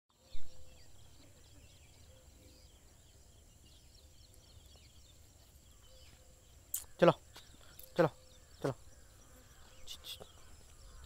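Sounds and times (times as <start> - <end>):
distant birds chirping: 0.1 - 11.0.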